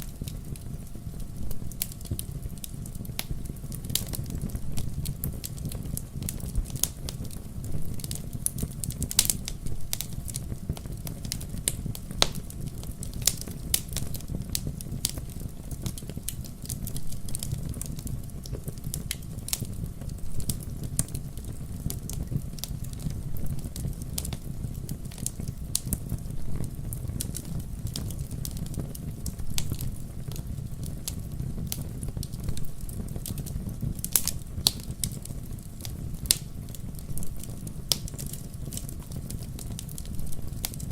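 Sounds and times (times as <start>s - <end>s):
fire flames rumbling: 0.0s - 40.9s
wood fire crackling and popping: 0.0s - 40.9s.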